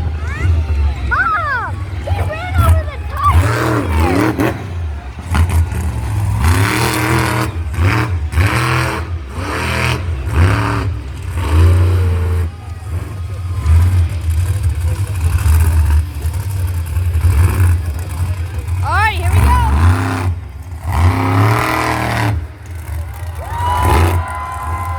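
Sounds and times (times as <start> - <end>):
engine revving in throttle blips: 0.0 - 24.9.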